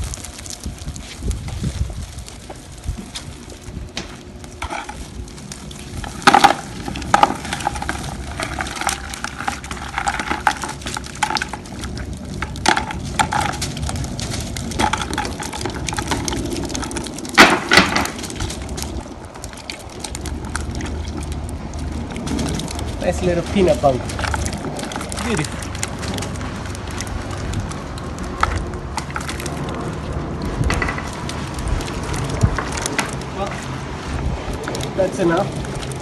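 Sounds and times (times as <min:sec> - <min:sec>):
fish flapping in plastic bucket: 0:00.0 - 0:36.0.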